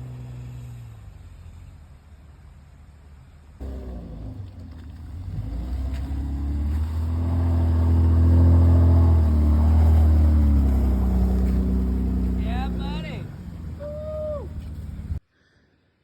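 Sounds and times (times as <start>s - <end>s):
vehicle engine under load: 0.0s - 15.2s.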